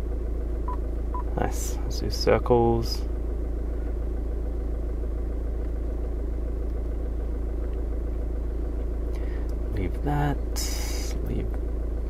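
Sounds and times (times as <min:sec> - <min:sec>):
car cabin rumble and hum: 0:00.0 - 0:12.0.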